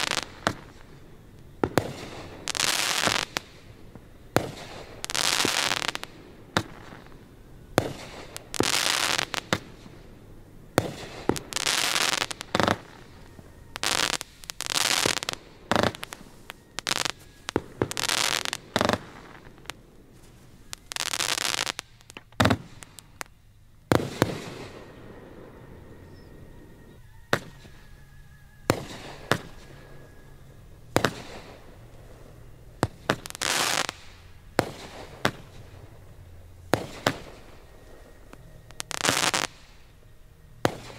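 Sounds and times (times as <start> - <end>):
fireworks hiss bursts: 0.0 - 25.0, 28.7 - 40.0
fireworks bangs: 0.0 - 27.9, 28.6 - 40.9.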